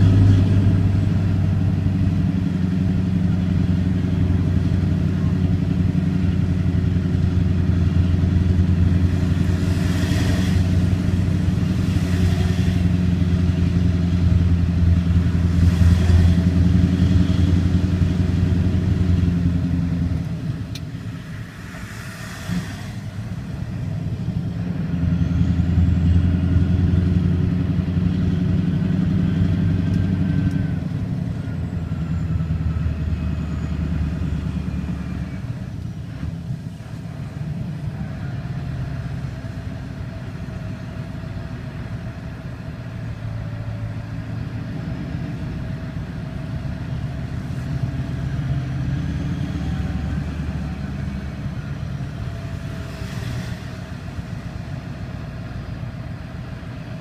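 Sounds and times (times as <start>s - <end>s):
vehicle engine running: 0.0s - 57.0s
wind or road noise rushes: 0.0s - 57.0s.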